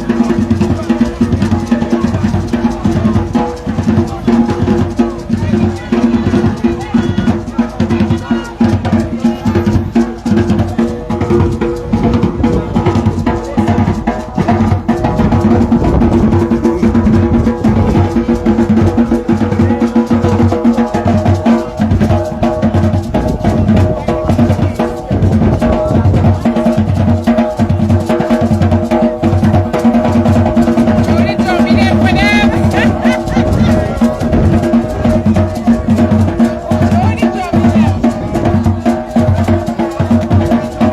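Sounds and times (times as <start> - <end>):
drum kit beat: 0.0 - 40.9.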